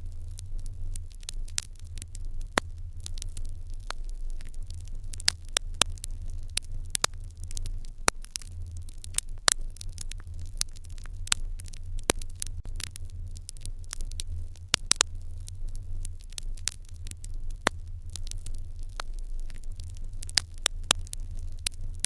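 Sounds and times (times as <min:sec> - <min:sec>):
low fire rumble: 0:00.0 - 0:22.0
wood fire crackling: 0:00.0 - 0:22.0.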